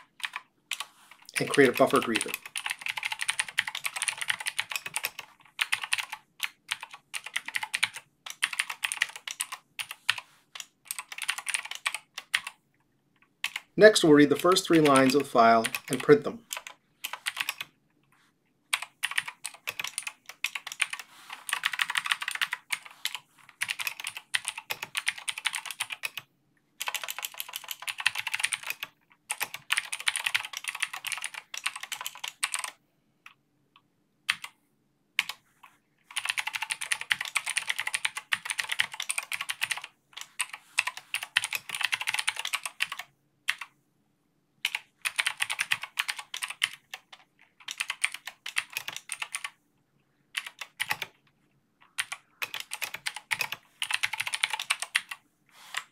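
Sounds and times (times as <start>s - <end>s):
typing on computer keyboard: 0.0s - 12.6s, 13.2s - 13.7s, 14.5s - 17.7s, 18.7s - 33.4s, 34.3s - 34.6s, 35.2s - 35.4s, 36.1s - 43.7s, 44.6s - 49.6s, 50.3s - 55.9s.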